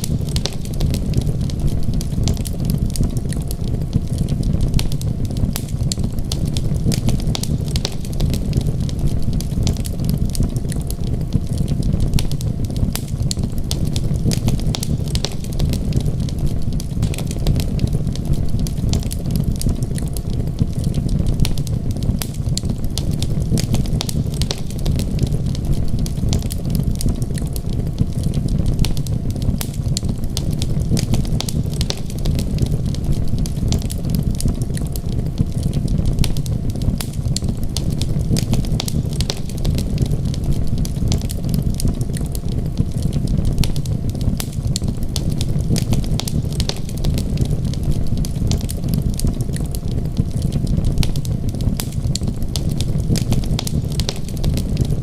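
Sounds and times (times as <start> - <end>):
rain hiss: 0.0 - 55.0
wood fire crackling: 0.0 - 55.0.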